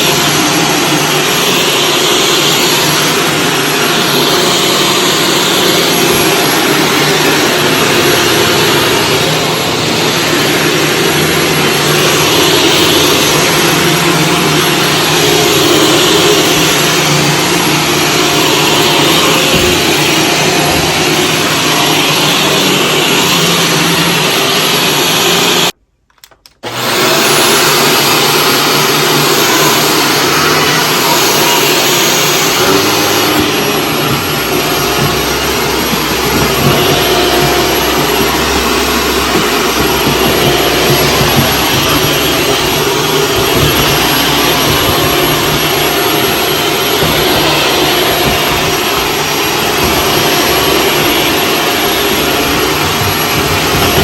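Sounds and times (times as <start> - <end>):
vacuum cleaner whooshing: 0.0 - 25.8, 26.6 - 54.0.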